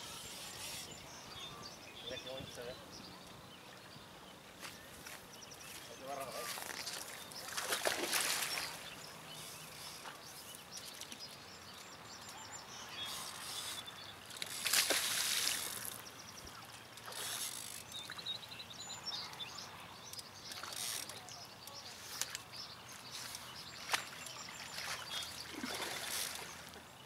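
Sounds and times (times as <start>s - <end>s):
outdoor lakeside ambience: 0.0s - 27.0s.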